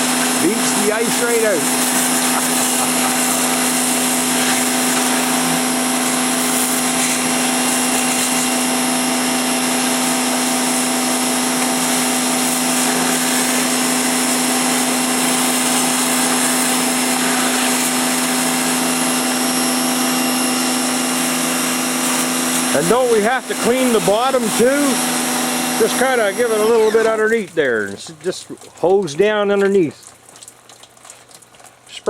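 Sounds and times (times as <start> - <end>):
pressure washer spraying: 0.0 - 27.5.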